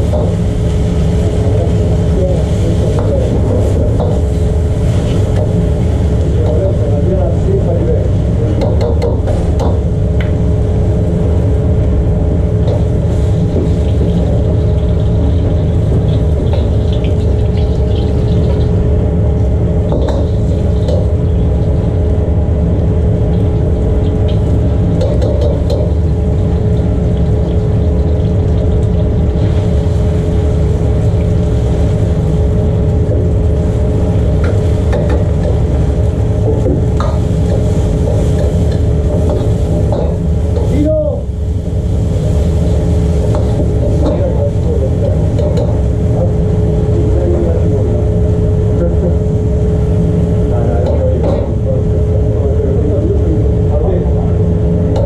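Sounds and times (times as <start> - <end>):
constant hum: 0.0 - 55.0
gas burners rumbling: 0.0 - 55.0.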